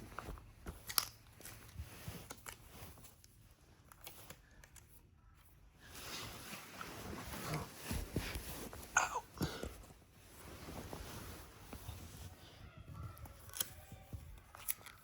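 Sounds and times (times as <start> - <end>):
handling clicks and rustles: 0.0 - 15.0.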